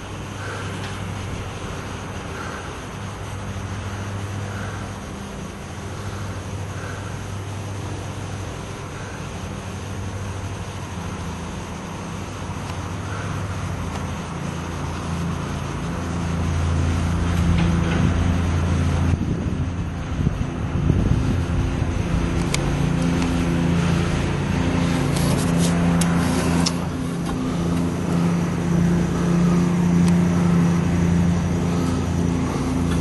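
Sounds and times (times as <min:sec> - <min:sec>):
low motor hum: 0:00.0 - 0:33.0.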